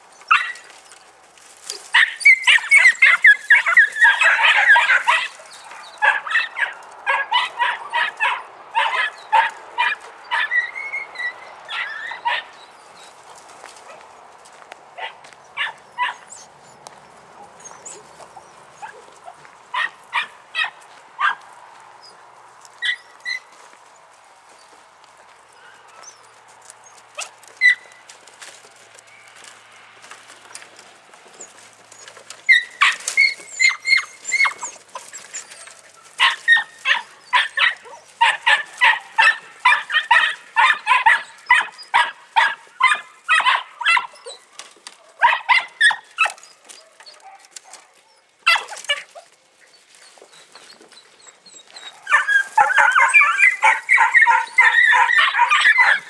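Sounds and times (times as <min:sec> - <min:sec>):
puppies yapping: 0:00.0 - 0:14.2, 0:15.0 - 0:23.6, 0:25.5 - 0:56.0.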